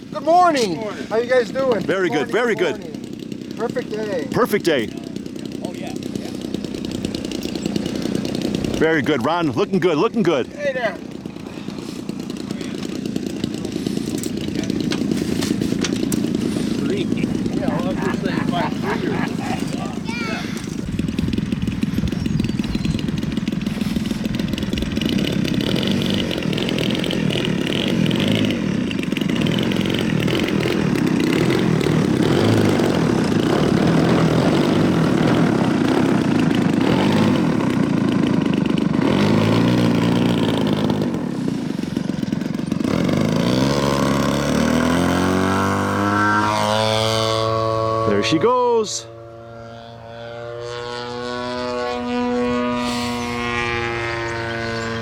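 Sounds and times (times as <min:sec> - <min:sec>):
model aircraft engine running: 0:00.0 - 0:55.0.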